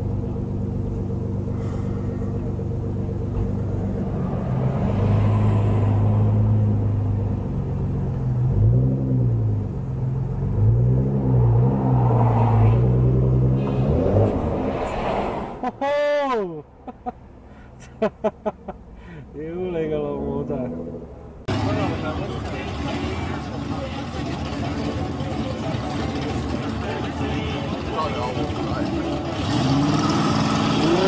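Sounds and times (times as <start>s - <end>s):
car engine revving: 0.0s - 15.7s, 20.1s - 31.0s.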